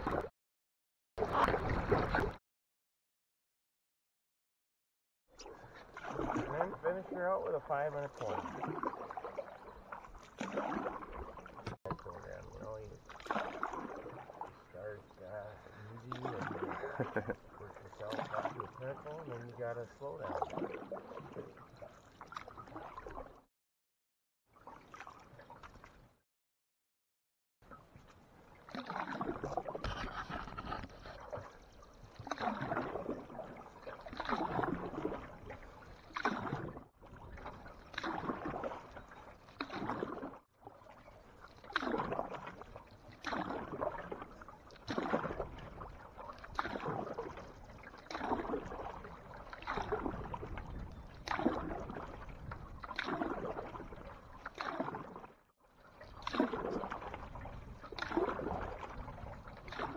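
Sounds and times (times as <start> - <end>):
canoe paddle strokes in water: 0.0 - 0.3, 1.2 - 2.4, 5.4 - 23.5, 24.5 - 26.2, 27.7 - 59.9.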